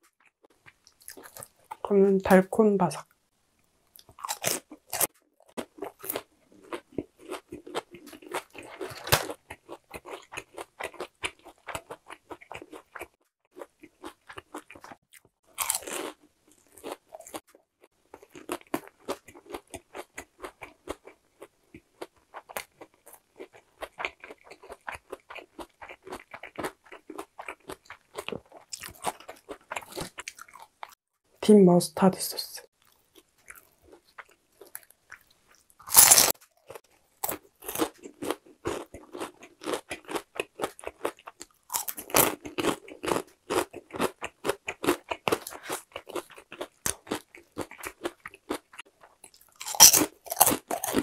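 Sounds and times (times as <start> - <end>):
crunching of fried chicken: 0.1 - 1.8, 4.0 - 31.0, 32.8 - 51.0.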